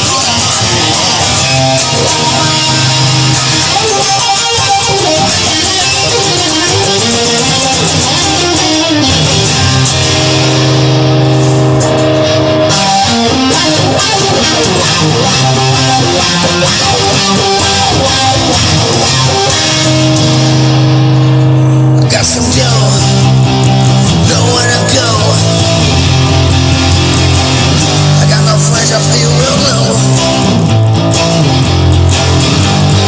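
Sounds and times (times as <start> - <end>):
bass line: 0.0 - 33.0
guitars playing sustained chords: 0.0 - 33.0.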